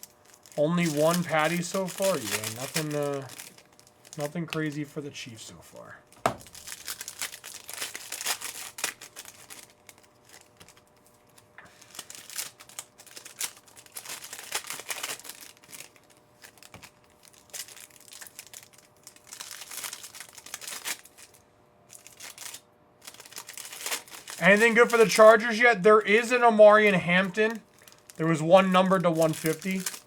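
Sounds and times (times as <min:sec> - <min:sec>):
wrappers tearing and crinkling: 0:00.0 - 0:04.9, 0:06.1 - 0:30.0.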